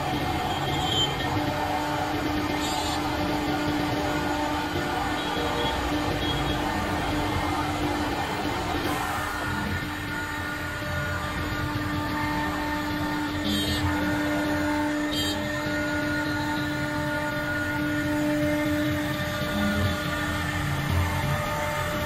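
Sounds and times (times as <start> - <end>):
router spindle humming: 0.0 - 22.0.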